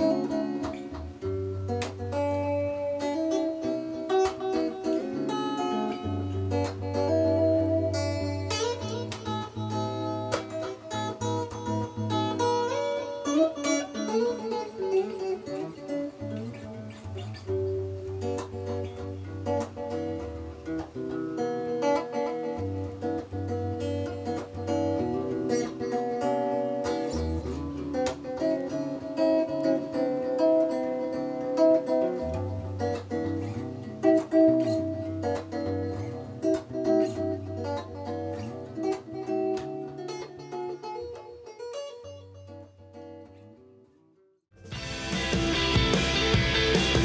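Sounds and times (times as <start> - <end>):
guitar through delay pedal: 0.0 - 43.8, 44.5 - 47.0.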